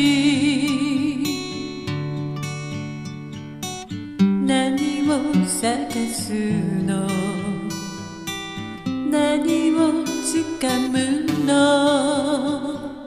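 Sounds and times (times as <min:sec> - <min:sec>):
acoustic guitar plucked and strummed: 0:00.0 - 0:13.0.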